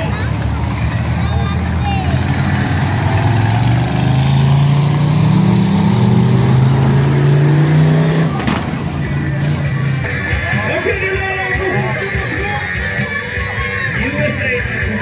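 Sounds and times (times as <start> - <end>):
monster truck engine revving: 0.0 - 12.8.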